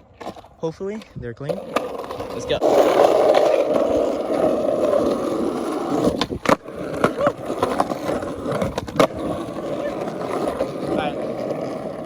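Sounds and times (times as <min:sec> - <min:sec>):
skateboard clacks: 0:00.0 - 0:12.0
skateboard wheels rolling on pavement: 0:00.0 - 0:12.0.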